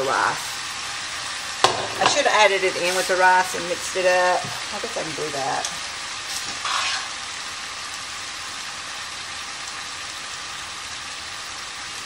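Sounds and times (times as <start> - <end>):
chicken sizzling in a skillet: 0.0 - 12.0.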